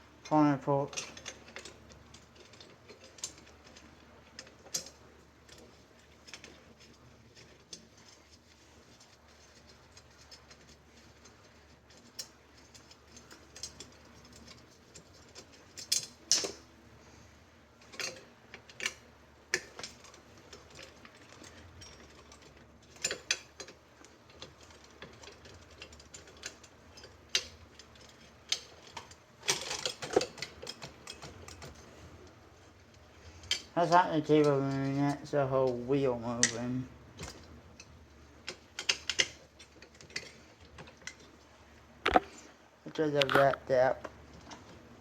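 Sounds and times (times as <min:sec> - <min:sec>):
metallic clicks of bicycle spokes: 0:00.2 - 0:16.7, 0:17.8 - 0:41.3.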